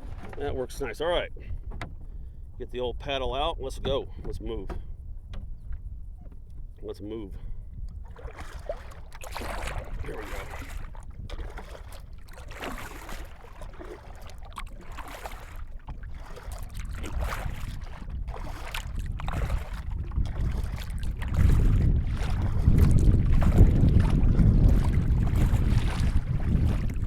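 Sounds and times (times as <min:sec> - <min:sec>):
kayak paddle swishing through water: 0:00.0 - 0:27.0
wind buffeting microphone: 0:00.0 - 0:27.0.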